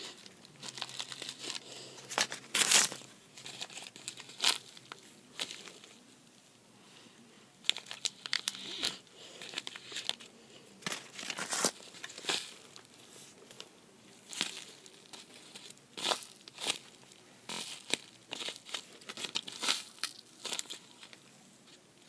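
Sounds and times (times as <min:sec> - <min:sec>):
crinkling and rustling: 0:00.0 - 0:06.5, 0:07.6 - 0:22.0.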